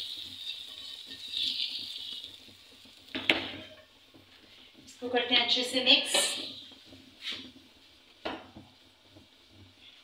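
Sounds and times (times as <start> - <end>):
hot ghee sizzling: 0.0 - 10.0.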